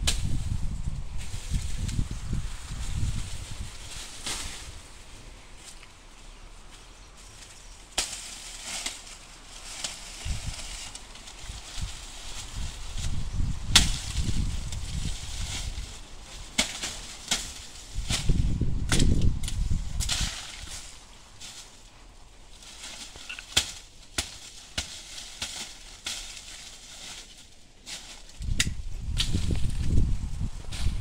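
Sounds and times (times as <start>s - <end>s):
dry stalks crackling: 0.0s - 31.0s.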